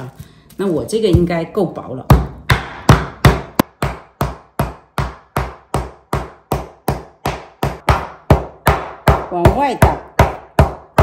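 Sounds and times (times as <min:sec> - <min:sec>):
meat mallet pounding meat: 0:02.0 - 0:11.0.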